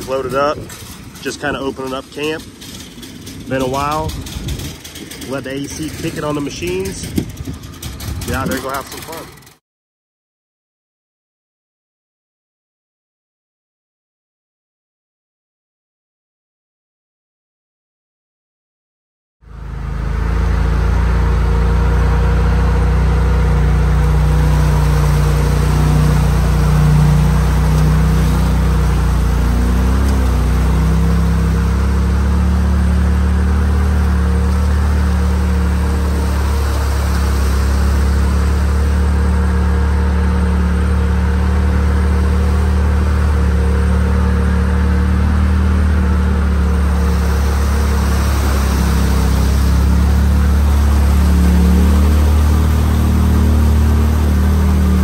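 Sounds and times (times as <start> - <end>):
off-road vehicle engine running: 0.0 - 9.6, 19.4 - 55.0.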